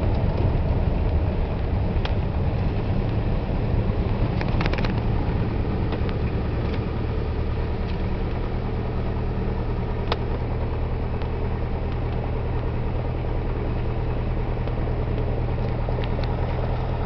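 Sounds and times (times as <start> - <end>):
propeller plane engine idling: 0.0 - 17.0.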